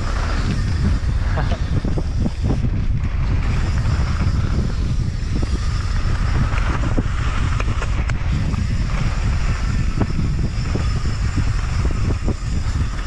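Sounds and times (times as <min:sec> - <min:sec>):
bike clicks and rattles: 0:00.0 - 0:13.0
bike tyres rumbling on dirt: 0:00.0 - 0:13.0
wind buffeting microphone: 0:00.0 - 0:13.0.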